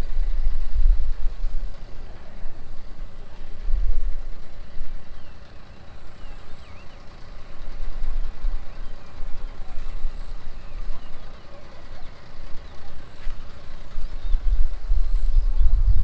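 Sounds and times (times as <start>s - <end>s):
wind buffeting microphone: 0.0s - 11.4s, 12.5s - 16.0s.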